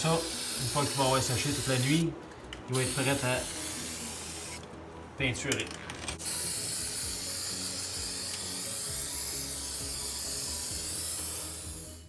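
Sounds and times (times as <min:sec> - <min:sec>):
spray can hissing: 0:00.0 - 0:02.0, 0:02.7 - 0:04.6, 0:06.2 - 0:12.0
faint background music: 0:00.0 - 0:12.0.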